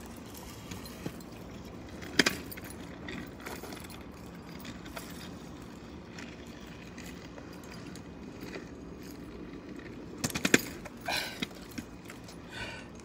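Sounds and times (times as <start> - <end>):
kick scooter rolling over pavement: 0.0 - 13.0.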